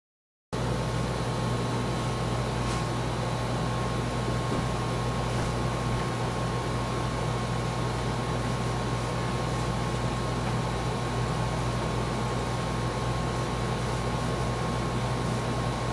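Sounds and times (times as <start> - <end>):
fan whir: 0.6 - 15.9
low electrical hum: 0.6 - 15.9.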